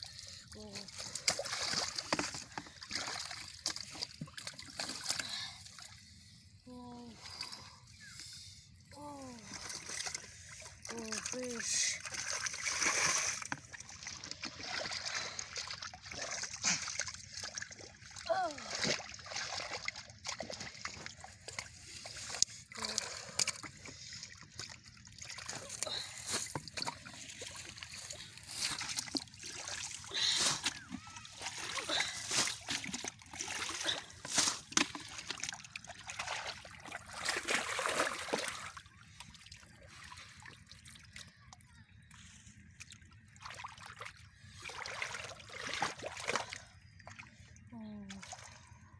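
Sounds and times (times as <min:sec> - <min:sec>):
muddy water splashing: 0:00.0 - 0:48.9.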